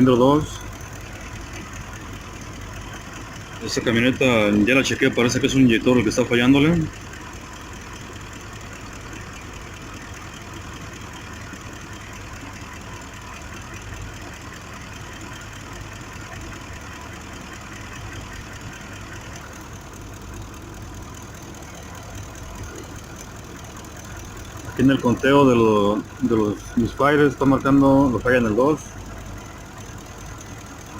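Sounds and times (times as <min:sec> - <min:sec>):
engine idling with misfire: 0:00.0 - 0:30.9.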